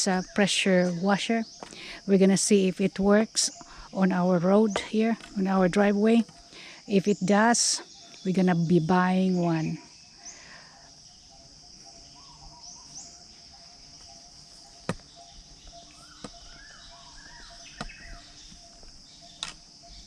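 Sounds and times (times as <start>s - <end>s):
insects droning: 0.0s - 20.0s
bird chirps: 2.8s - 20.0s.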